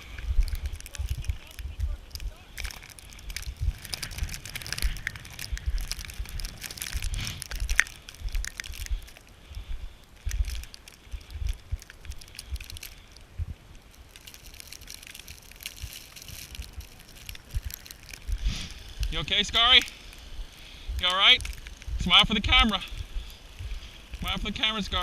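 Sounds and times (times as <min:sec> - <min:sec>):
wind buffeting microphone: 0:00.0 - 0:14.2, 0:15.7 - 0:25.0
footsteps crunching through snow: 0:00.0 - 0:25.0.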